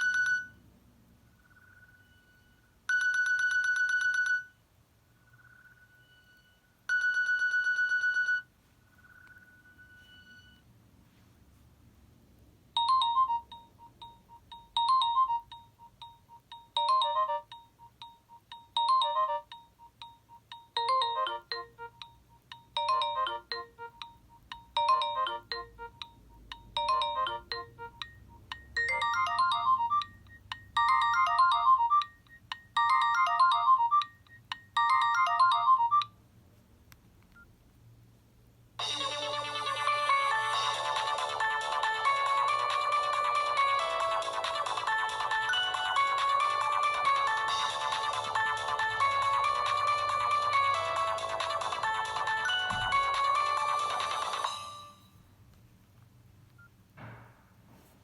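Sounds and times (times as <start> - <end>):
mobile phone ringtone: 0.0 - 0.6, 1.3 - 4.6, 5.2 - 10.7, 12.8 - 36.2, 38.8 - 55.2.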